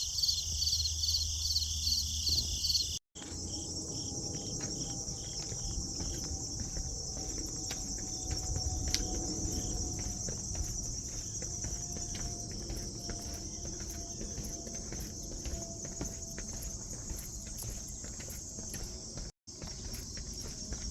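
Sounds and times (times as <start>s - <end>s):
insects chirping: 0.0s - 20.9s.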